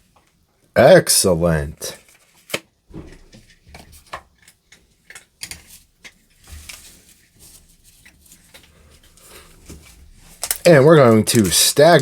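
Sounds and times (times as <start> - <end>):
light rustling of cards: 1.9 - 12.0.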